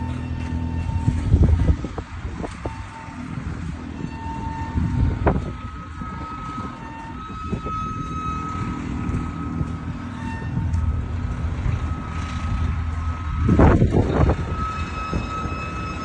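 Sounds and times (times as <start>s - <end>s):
machinery rumble with whine: 0.0s - 16.0s.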